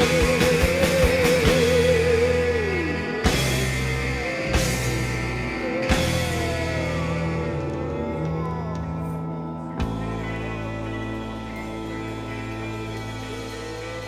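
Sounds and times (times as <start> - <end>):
bending lead guitar: 0.0 - 14.0
electric guitar chords: 0.0 - 14.0.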